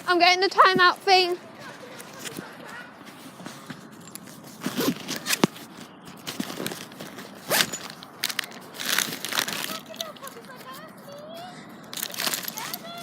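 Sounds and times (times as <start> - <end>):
handling rustling: 0.0 - 13.0.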